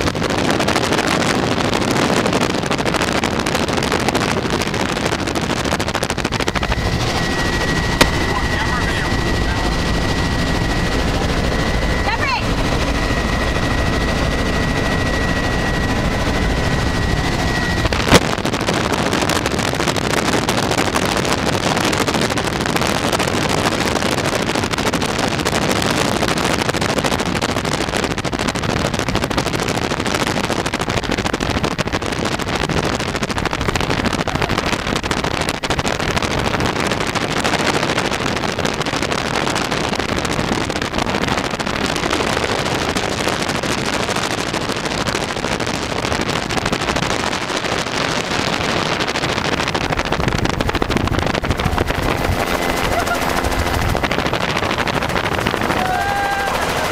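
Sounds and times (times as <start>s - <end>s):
helicopter rotor noise: 0.0s - 56.9s
high steady whine: 0.0s - 56.9s.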